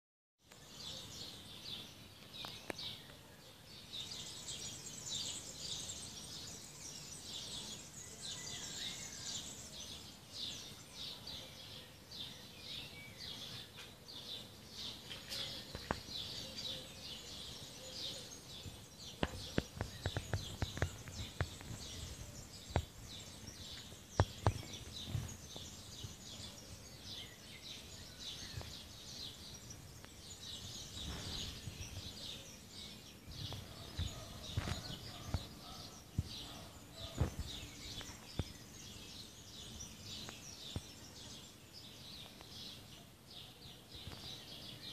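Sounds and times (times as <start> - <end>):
birds twittering and chirping: 0.4 - 44.9.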